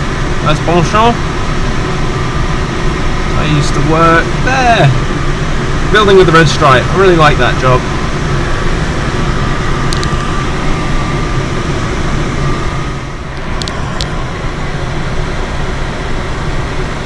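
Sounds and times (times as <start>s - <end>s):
airflow rushing around glider: 0.0s - 17.0s.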